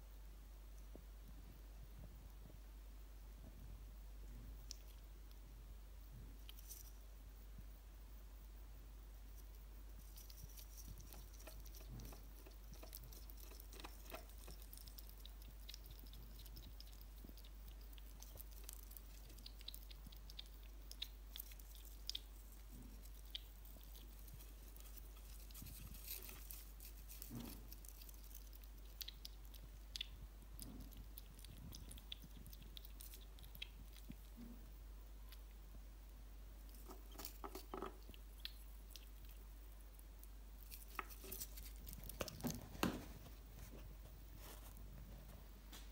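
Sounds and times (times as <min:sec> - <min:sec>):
hedgehog chewing: 0:04.1 - 0:07.6, 0:08.4 - 0:45.9.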